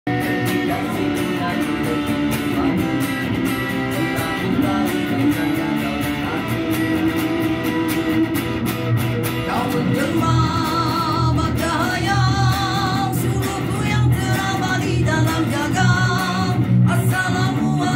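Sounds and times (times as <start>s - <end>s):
man singing: 0.1s - 8.5s, 9.3s - 17.9s
electric guitar picking: 0.1s - 17.9s.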